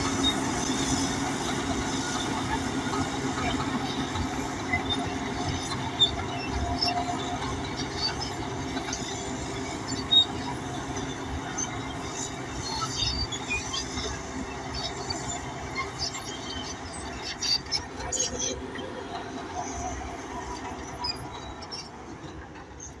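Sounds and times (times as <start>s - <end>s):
diesel engine running: 0.0s - 23.0s
steel tracks clanking and squeaking: 0.0s - 23.0s.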